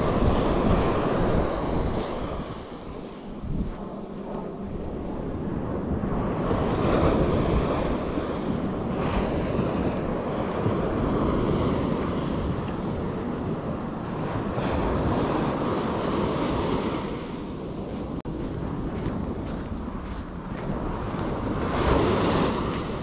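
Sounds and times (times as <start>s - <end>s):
ocean waves breaking on shore: 0.0s - 23.0s
wind buffeting microphone: 0.0s - 23.0s.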